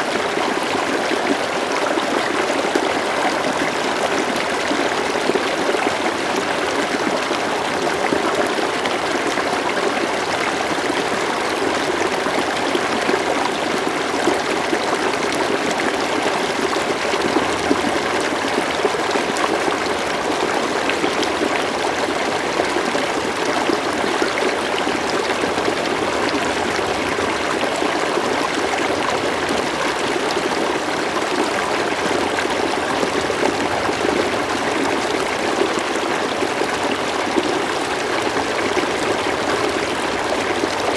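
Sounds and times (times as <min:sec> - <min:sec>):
river water rushing and trickling: 0:00.0 - 0:40.9.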